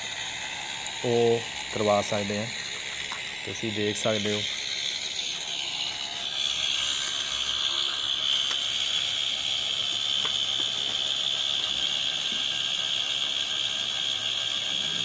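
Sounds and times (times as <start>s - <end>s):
high-pitched chirring: 0.0s - 15.0s
pump running: 0.0s - 15.0s.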